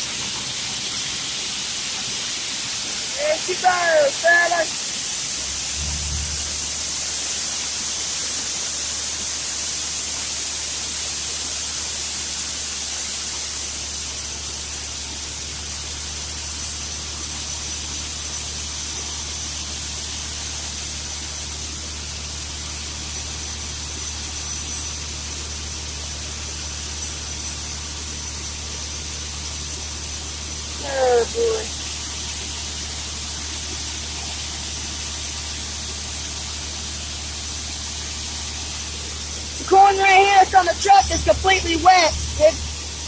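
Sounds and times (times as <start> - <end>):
diesel engine droning: 0.0 - 7.4, 14.1 - 43.0
grain pouring hiss: 0.0 - 43.0.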